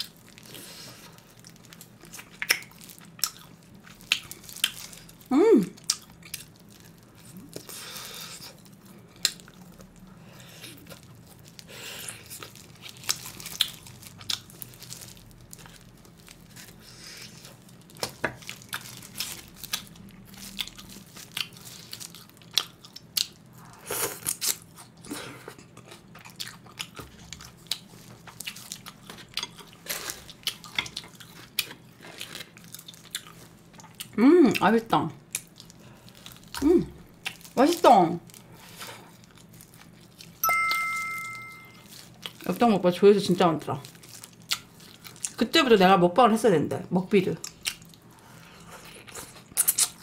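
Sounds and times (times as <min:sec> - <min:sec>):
person chewing ribs: 0:00.0 - 0:34.6, 0:35.2 - 0:40.4, 0:41.8 - 0:42.4, 0:43.8 - 0:45.4, 0:47.4 - 0:50.0.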